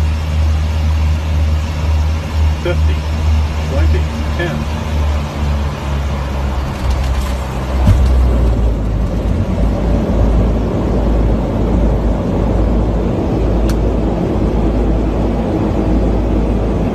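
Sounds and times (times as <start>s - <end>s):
aircraft engine rumble: 0.0s - 16.9s.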